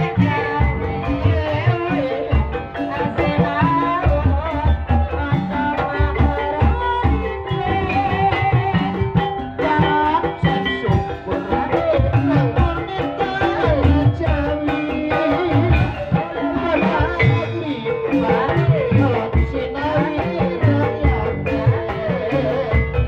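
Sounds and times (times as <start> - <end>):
hand drum beats: 0.0 - 23.0.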